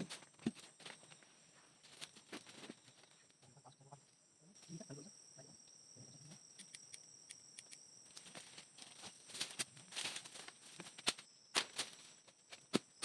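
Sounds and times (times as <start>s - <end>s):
high-pitched insect drone: 2.0s - 13.0s.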